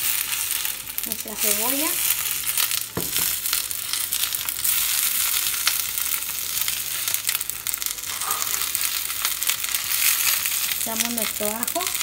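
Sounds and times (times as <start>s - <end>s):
vegetables sizzling in a skillet: 0.0s - 12.0s.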